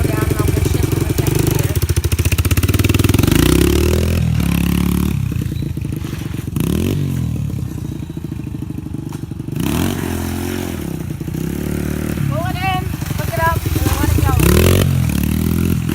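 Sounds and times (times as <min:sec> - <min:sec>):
dirt bike engine shifting gears: 0:00.0 - 0:15.9.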